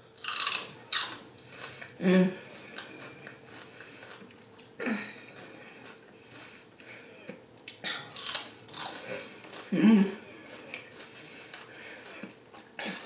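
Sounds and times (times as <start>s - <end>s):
close-miked chewing: 0.1s - 13.0s.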